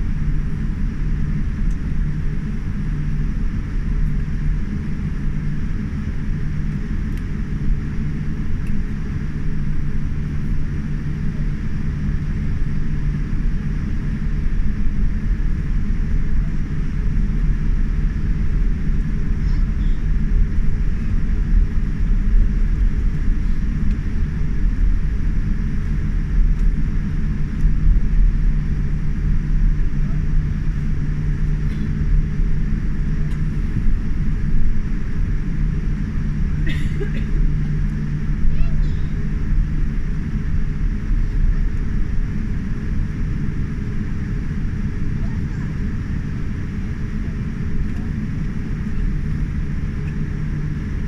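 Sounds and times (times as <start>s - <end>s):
airplane cabin rumble: 0.0s - 51.0s
constant hum: 0.0s - 51.0s.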